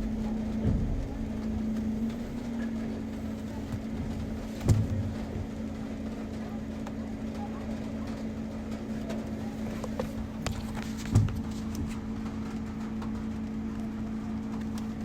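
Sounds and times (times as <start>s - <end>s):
raindrops tapping: 0.0s - 15.0s
steady low hum: 0.0s - 15.0s.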